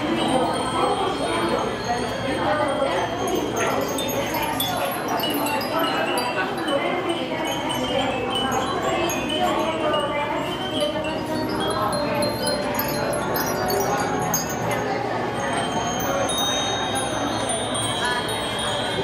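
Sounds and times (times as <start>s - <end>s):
wind bells tinkling: 0.0s - 19.0s.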